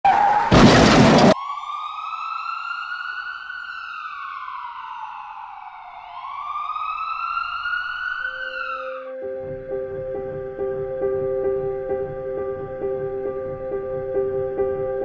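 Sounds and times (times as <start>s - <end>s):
ambulance siren wailing: 0.0s - 15.0s.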